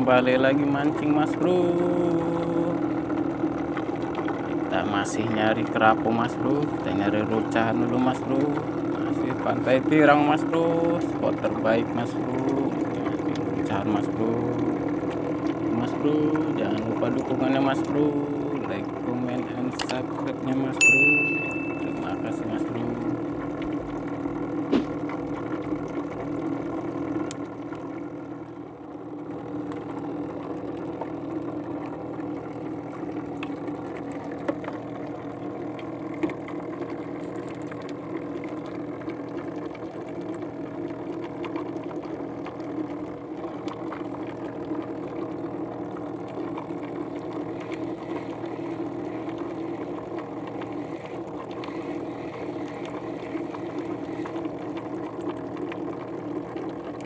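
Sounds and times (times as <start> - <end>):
small boat engine running: 0.0 - 57.0.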